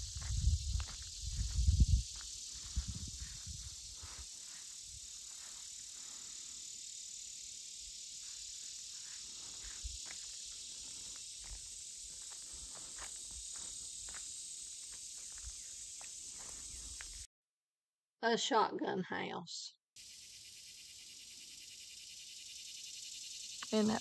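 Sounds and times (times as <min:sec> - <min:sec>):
insects chirping: 0:00.0 - 0:17.3, 0:20.0 - 0:24.0.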